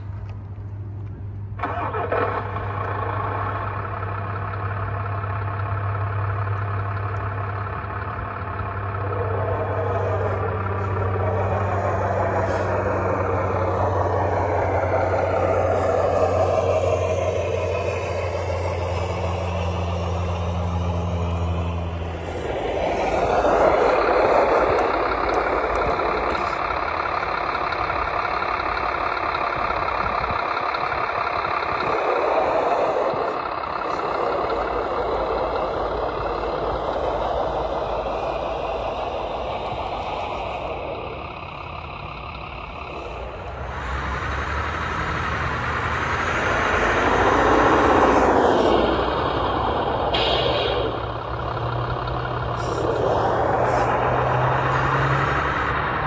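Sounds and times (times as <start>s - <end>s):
buzzy drivetrain whine: 0.0s - 56.0s
model truck low hum: 0.0s - 56.0s.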